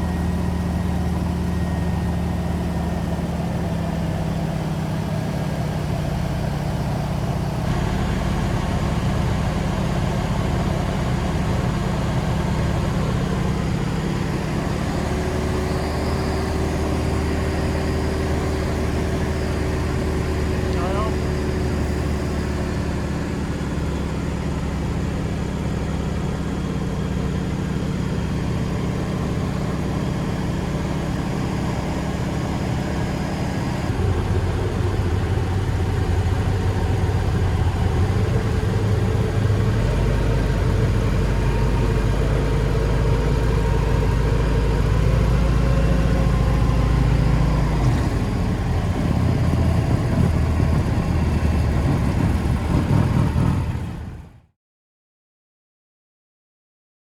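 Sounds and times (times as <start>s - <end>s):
radial engine and propeller running: 0.0s - 54.5s.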